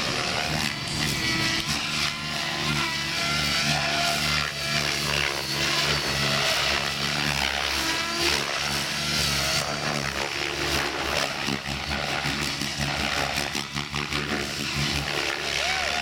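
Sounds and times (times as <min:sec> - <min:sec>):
helicopter rotor buzz and motor whine: 0:00.0 - 0:16.0.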